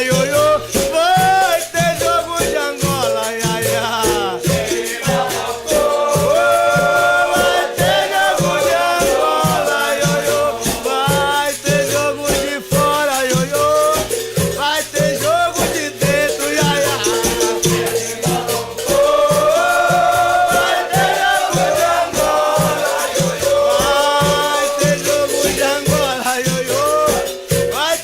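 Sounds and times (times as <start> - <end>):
shaken rattle: 0.0 - 28.0
steady drumbeat: 0.0 - 28.0
voices singing: 0.0 - 28.0.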